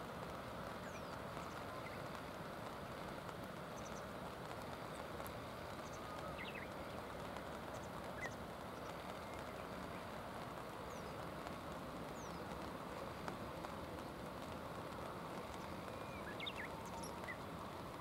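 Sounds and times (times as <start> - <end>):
falling rain: 0.0 - 18.0
river rushing: 0.0 - 18.0.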